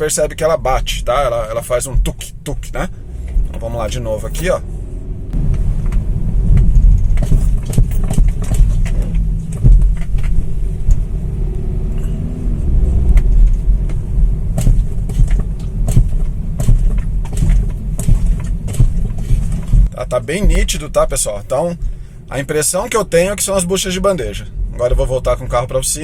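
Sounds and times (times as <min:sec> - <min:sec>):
car driving rumble in cabin: 0:00.0 - 0:26.0
suspension knocking: 0:00.6 - 0:22.2, 0:24.8 - 0:25.4.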